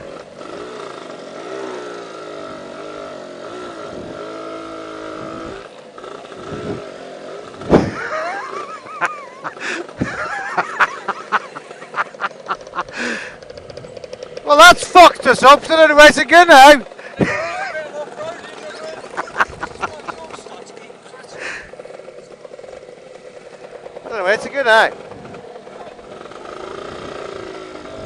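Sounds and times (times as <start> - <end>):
scooter engine running: 0.0 - 28.0.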